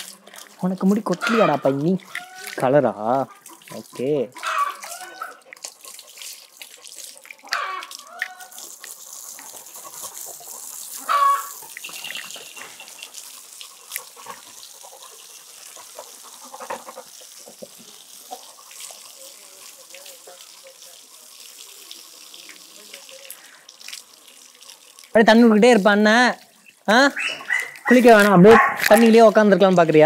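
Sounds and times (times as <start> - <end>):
hose water spraying: 0.0 - 30.0
water splashing on concrete: 0.0 - 30.0.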